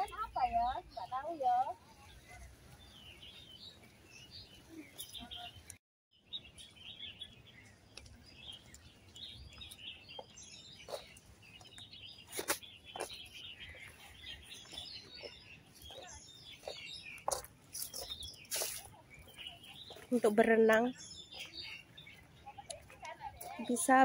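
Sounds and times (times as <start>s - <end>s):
faint outdoor noise: 0.0s - 24.0s
small birds chirping: 0.0s - 24.0s.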